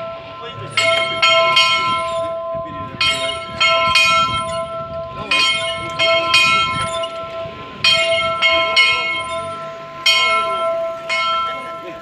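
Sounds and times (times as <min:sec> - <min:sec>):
church bell ringing: 0:00.0 - 0:12.0.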